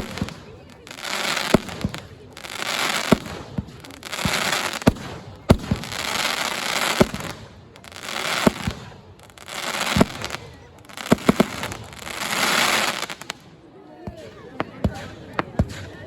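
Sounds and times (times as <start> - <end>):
firework crackle: 0.0 - 13.5
firework shells exploding: 0.0 - 13.5.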